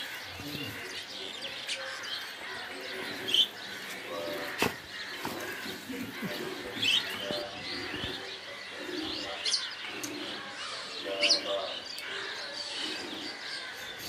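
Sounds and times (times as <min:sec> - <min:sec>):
birds chirping: 0:00.0 - 0:14.0
birds cooing: 0:00.0 - 0:14.0.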